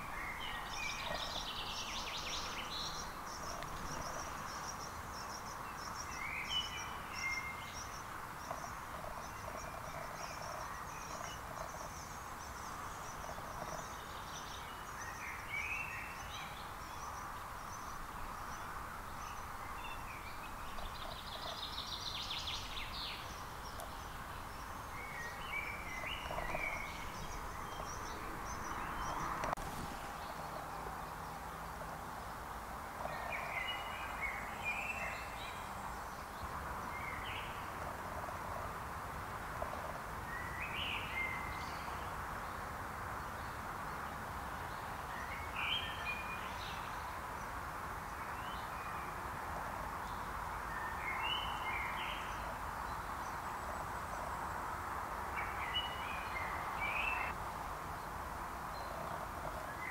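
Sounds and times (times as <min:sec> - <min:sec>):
songbirds singing and chirping: 0:00.0 - 0:59.9
steady background hiss: 0:00.0 - 0:59.9.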